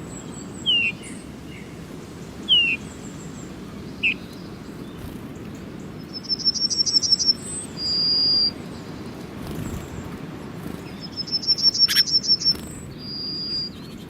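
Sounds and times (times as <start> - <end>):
small birds calling: 0.0 - 14.0.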